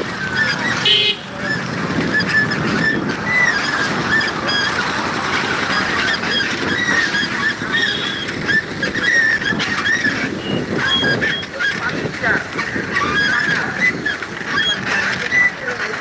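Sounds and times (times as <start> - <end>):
high chirps and squeaks: 0.0 - 15.9
street traffic rumbling: 0.0 - 16.0.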